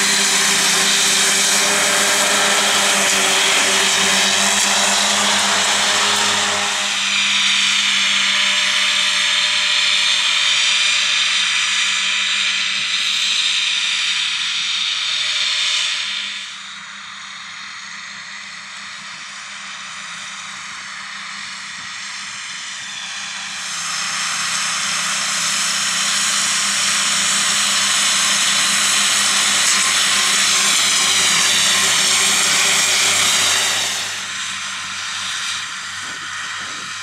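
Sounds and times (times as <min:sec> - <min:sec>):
high whine of spinning mowers: 0:00.0 - 0:37.0
tractor engine drone: 0:00.0 - 0:37.0.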